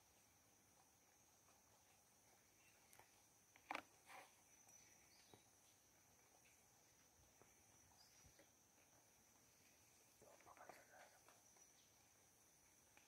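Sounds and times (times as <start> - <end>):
faint high insect drone: 0.0 - 13.0.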